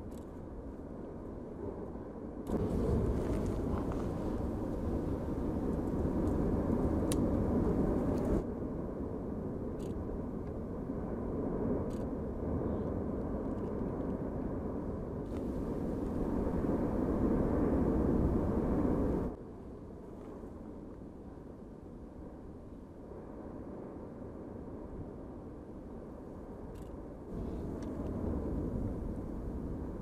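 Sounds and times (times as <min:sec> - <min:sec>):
volcano deep rumble: 0:00.6 - 0:30.0.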